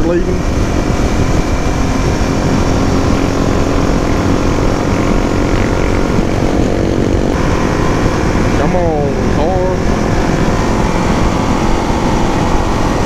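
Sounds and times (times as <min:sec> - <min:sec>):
motorcycle engine cruising: 0:00.0 - 0:13.0
wind noise on microphone: 0:00.0 - 0:13.0.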